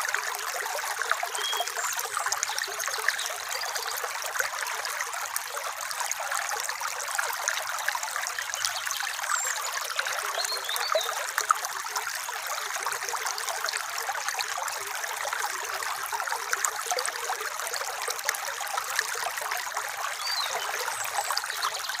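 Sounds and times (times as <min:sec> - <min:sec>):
stream babbling over pebbles: 0:00.0 - 0:22.0.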